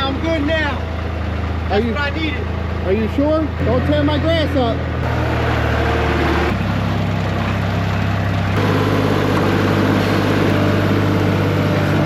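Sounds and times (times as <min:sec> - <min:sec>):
loader engine running: 0:00.0 - 0:12.0.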